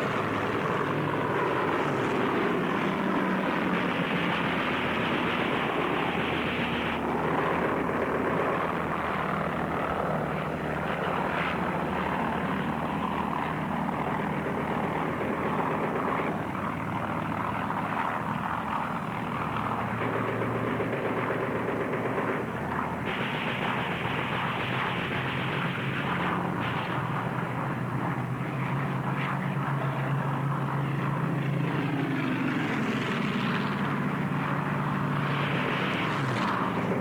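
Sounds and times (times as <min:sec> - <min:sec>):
aircraft engine drone: 0:00.0 - 0:37.0.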